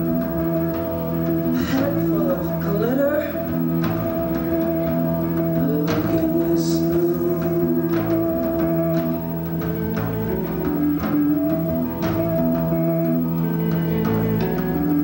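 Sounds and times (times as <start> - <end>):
drum strokes: 0.0 - 15.0
live rock band playing: 0.0 - 15.0.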